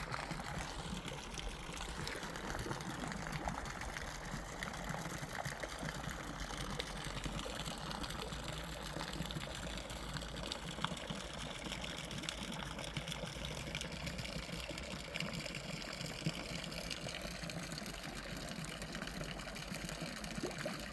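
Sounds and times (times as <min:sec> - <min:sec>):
running water: 0:00.0 - 0:20.9.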